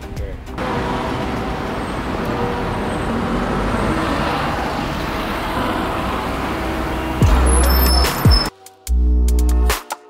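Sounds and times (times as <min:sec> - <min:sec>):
city traffic: 0:00.0 - 0:08.6.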